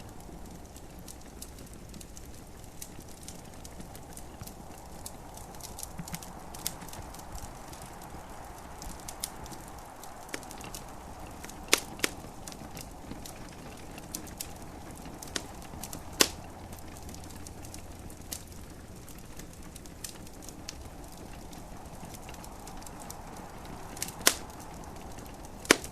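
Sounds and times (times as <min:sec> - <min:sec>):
gentle rain hiss: 0:00.0 - 0:25.9
wood fire crackling and popping: 0:00.0 - 0:25.9.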